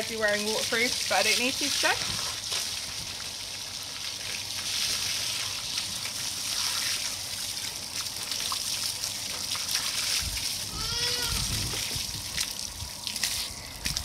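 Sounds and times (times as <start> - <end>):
water from hose rushing: 0.0 - 14.0
water trickling onto ground: 0.0 - 14.0.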